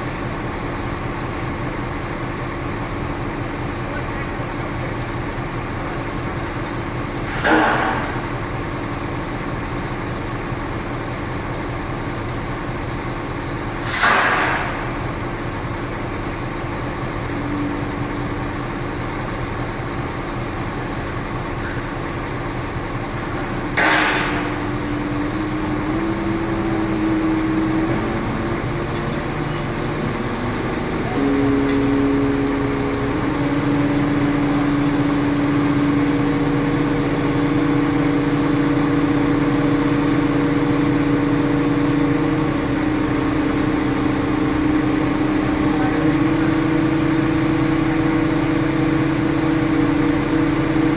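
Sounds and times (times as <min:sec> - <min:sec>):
construction machinery drone: 0:00.0 - 0:50.9.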